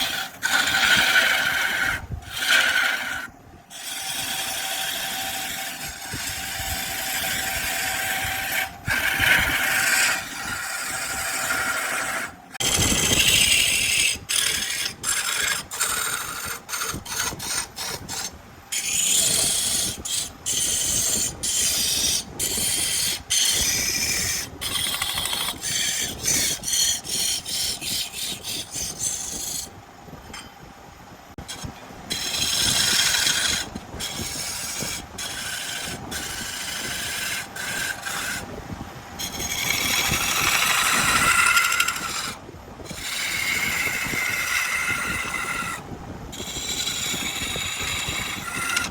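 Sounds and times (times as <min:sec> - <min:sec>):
lathe tool rasping on wood: 0:00.0 - 0:29.7, 0:31.4 - 0:38.5, 0:39.2 - 0:48.9.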